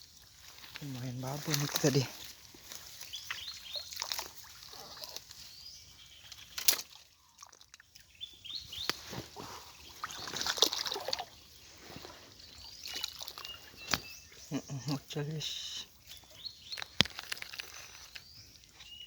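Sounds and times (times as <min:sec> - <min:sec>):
water splashing and sloshing: 0:00.0 - 0:18.9.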